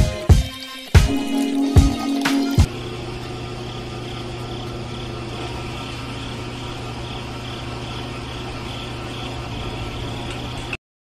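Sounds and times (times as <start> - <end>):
small electric motor humming: 0.6 - 10.8.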